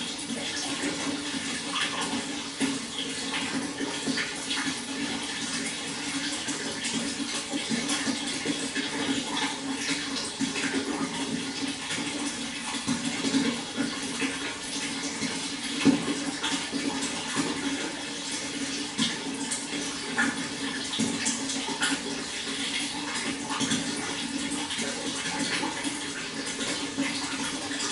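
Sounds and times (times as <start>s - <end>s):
water flowing: 0.0s - 27.9s.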